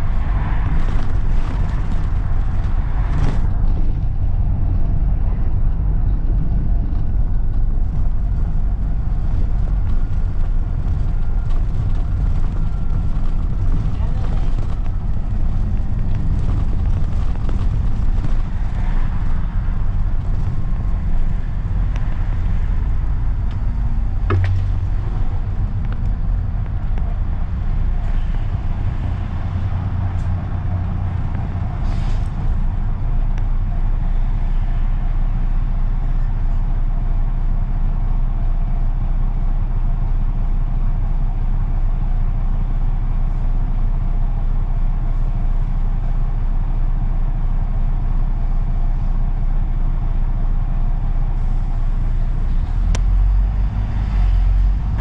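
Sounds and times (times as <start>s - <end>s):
bus engine and road rumble: 0.0s - 55.0s
bus engine idling: 0.0s - 55.0s.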